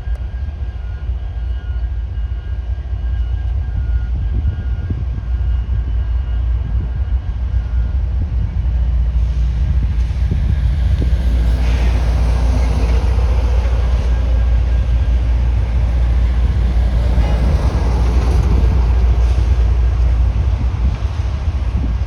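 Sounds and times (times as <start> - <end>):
train rumbling with diesel drone: 0.0 - 22.0.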